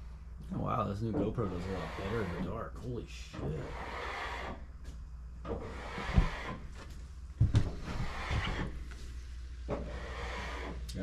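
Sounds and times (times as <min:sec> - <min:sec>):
rubbing and scraping: 0:00.4 - 0:04.8, 0:05.4 - 0:07.0, 0:07.6 - 0:10.9.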